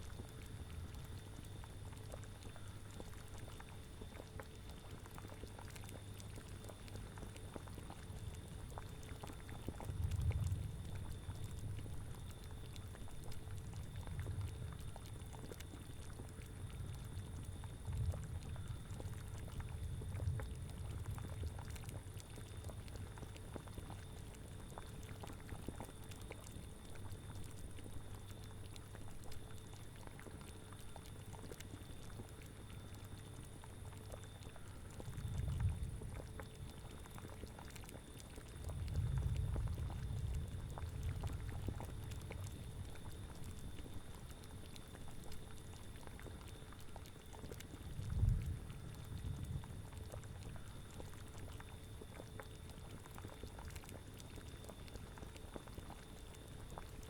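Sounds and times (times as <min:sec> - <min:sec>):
cauldron bubbling and popping: 0:00.0 - 0:57.0.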